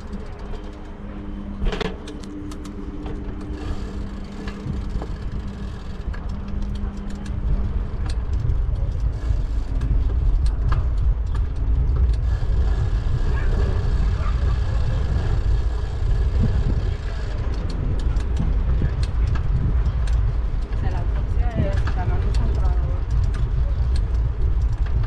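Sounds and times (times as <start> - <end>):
road rumble: 0.0 - 25.0
steady low hum: 0.0 - 25.0
wind noise: 0.0 - 25.0.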